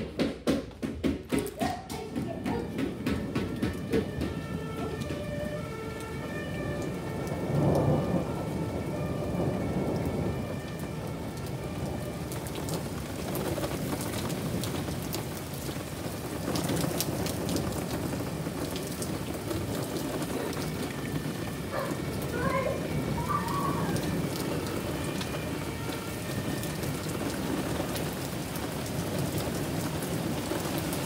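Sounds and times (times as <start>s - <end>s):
heavy rain pouring: 0.0s - 31.0s
thunder rolling: 2.1s - 31.0s.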